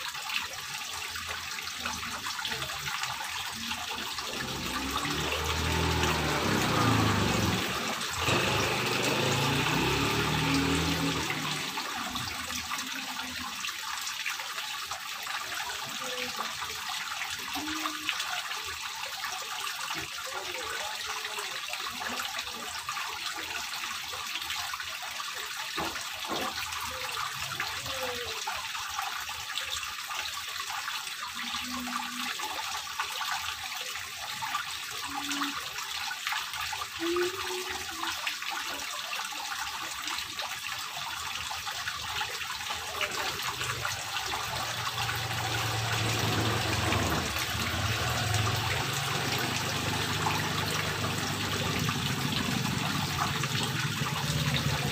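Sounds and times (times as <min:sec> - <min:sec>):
water splashing from fountain: 0:00.0 - 0:54.9.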